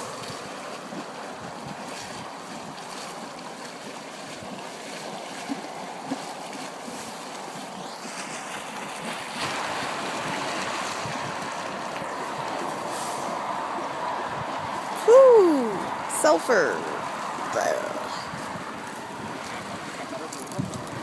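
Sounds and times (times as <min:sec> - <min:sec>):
hot spring hissing and bubbling: 0:00.0 - 0:21.0.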